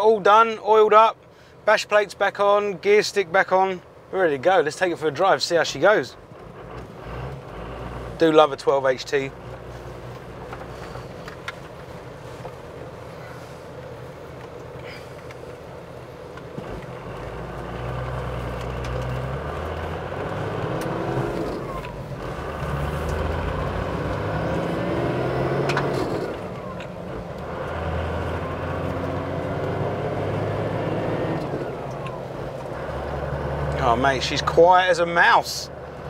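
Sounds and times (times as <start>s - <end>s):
diesel engine accelerating: 4.8s - 36.0s.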